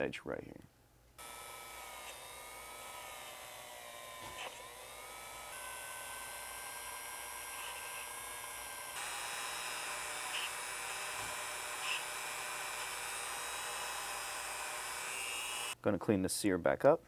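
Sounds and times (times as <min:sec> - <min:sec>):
rotary tool whining: 0:01.2 - 0:15.8.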